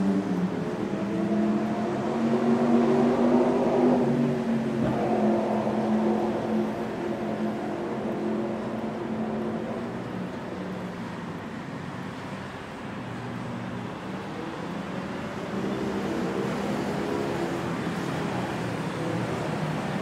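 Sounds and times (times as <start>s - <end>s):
road traffic engine hum: 0.0s - 20.0s.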